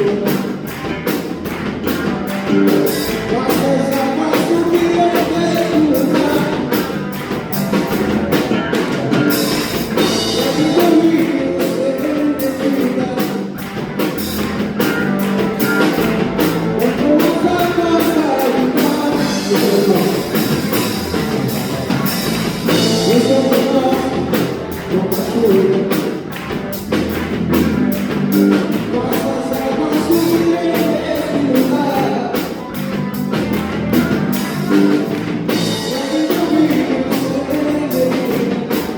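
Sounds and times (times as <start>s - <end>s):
person singing: 0.0s - 1.0s, 1.9s - 14.2s, 14.8s - 27.0s, 28.0s - 38.9s
bass: 0.0s - 38.9s
drum-kit beat: 0.0s - 38.9s
electric guitar: 0.0s - 38.9s.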